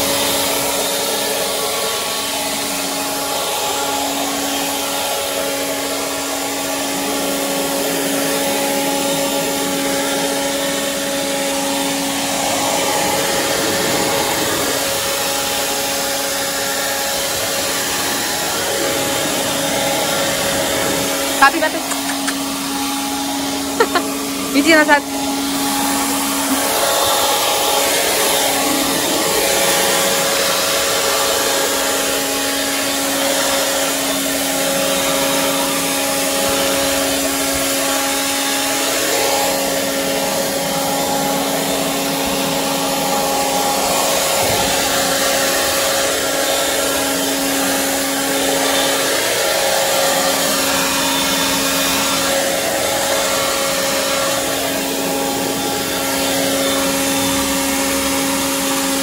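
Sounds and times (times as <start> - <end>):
leaf blower whining: 0.0 - 59.0.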